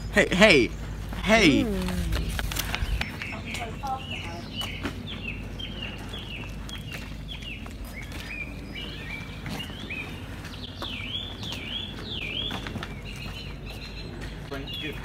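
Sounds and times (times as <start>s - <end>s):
low outdoor background: 0.0s - 15.0s
songbird singing: 0.0s - 15.0s.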